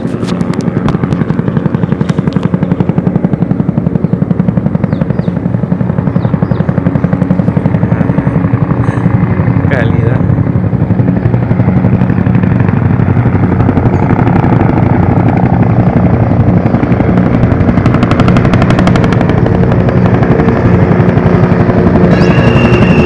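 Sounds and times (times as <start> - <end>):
helicopter rotor chop: 0.0 - 23.0
low drone: 0.0 - 23.0.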